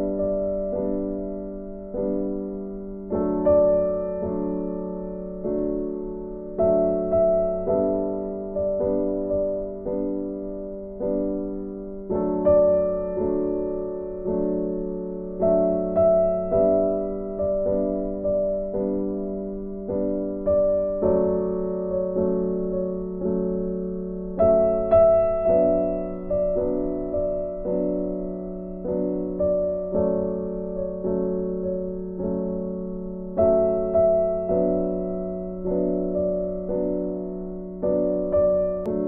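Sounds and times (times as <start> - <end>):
slow gentle piano: 0.0 - 39.0.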